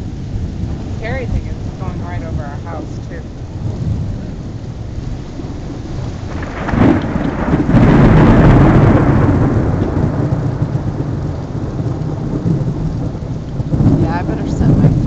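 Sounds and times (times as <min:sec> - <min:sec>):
heavy rain: 0:00.0 - 0:15.0
thunder crack and rumble: 0:00.0 - 0:15.0.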